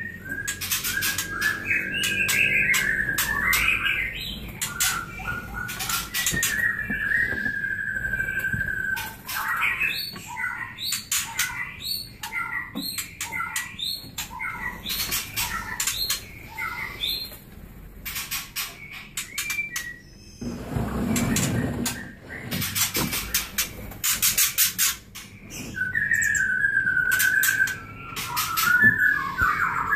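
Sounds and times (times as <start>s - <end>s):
birds chirping and clicking: 0.0s - 29.9s.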